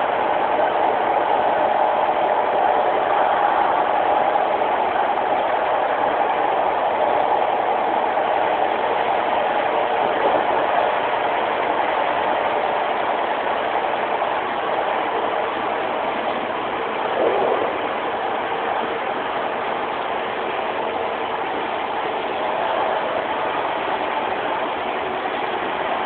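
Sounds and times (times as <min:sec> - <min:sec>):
train diesel engine drone: 0:00.0 - 0:26.0.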